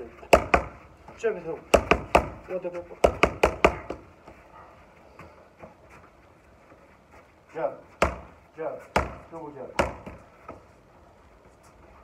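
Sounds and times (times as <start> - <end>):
footwork scuffs on turf: 0.0 - 12.0.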